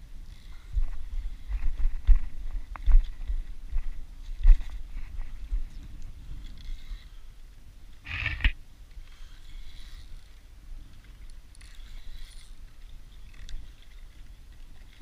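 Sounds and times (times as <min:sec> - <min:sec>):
wind rumble on microphone: 0:00.0 - 0:15.0
fishing reel whirring: 0:00.1 - 0:15.0.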